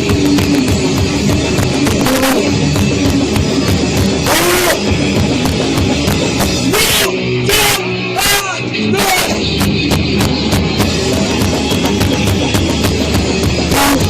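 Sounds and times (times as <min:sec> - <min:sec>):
heavy rock band playing: 0:00.0 - 0:14.0.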